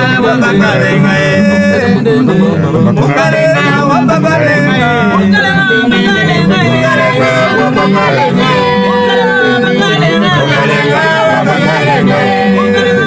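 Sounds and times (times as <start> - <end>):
choir singing: 0.0 - 13.0
instrumental backing: 0.0 - 13.0
man singing lead: 0.0 - 13.0.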